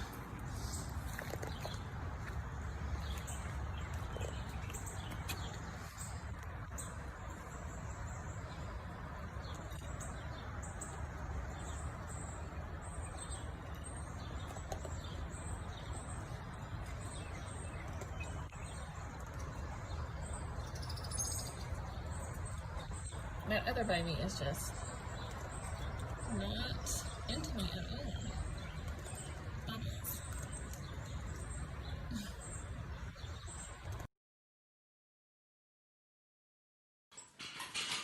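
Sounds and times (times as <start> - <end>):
birds chirping: 0.0 - 34.1.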